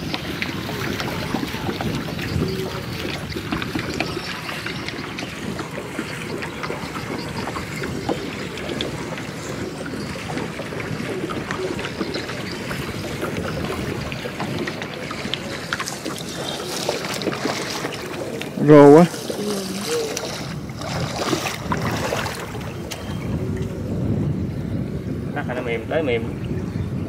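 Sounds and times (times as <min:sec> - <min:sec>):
floodwater sloshing and splashing: 0:00.0 - 0:24.1.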